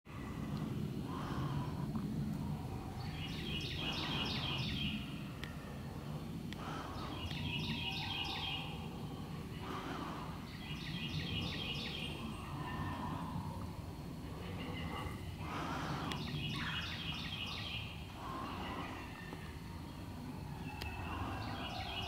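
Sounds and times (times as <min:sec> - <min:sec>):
low background rumble: 0:00.1 - 0:22.0
songbird singing: 0:00.1 - 0:22.0.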